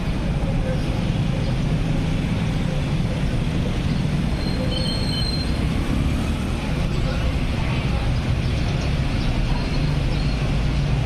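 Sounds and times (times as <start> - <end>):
motorcycles crossing railway tracks: 0.0 - 11.0
road traffic rumble: 0.0 - 11.0.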